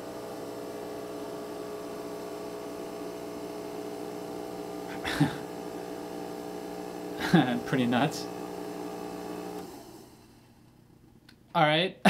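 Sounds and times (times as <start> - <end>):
fog machine pump buzzing: 0.0 - 10.5.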